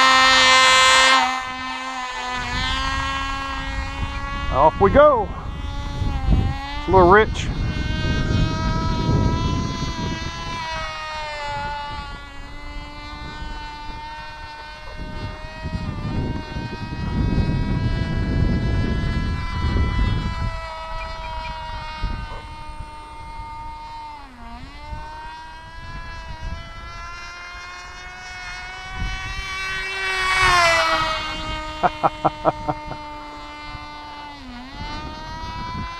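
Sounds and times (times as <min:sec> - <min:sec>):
model plane engine buzzing: 0:00.0 - 0:35.9.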